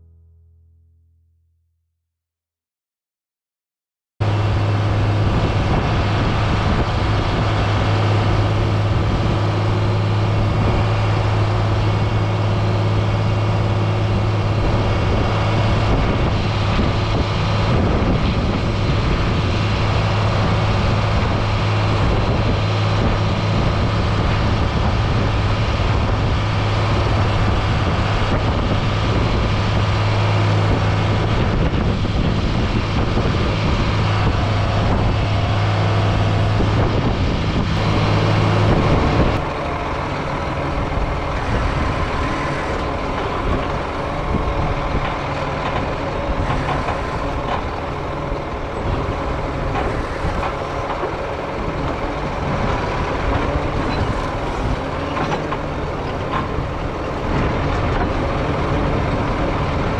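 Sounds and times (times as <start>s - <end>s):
diesel engine droning: 0.0s - 1.3s, 4.2s - 59.9s.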